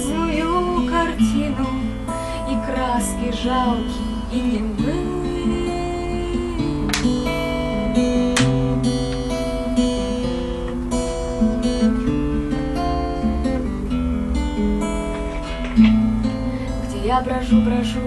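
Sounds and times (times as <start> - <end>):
acoustic guitar playing chords: 0.0 - 18.0.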